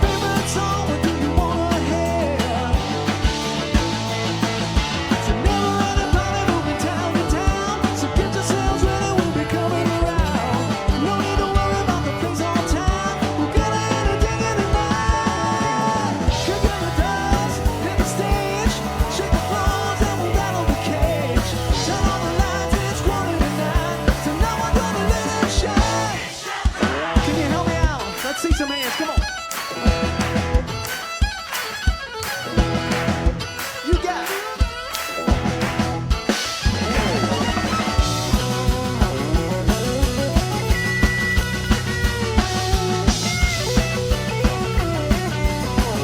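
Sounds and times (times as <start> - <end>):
drums steady beat: 0.0 - 46.0
live country band: 0.0 - 46.0.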